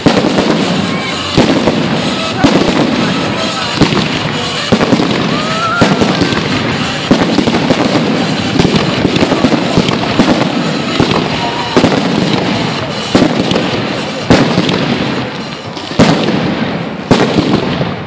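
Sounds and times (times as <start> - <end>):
firework crackling: 0.0 - 18.0
firework shells bursting: 0.0 - 18.0
firework whistle: 0.0 - 18.0.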